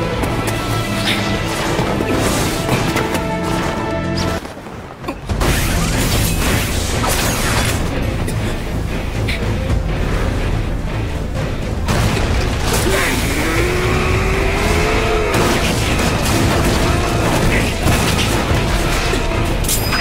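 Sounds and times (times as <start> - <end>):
music: 0.0 - 20.0.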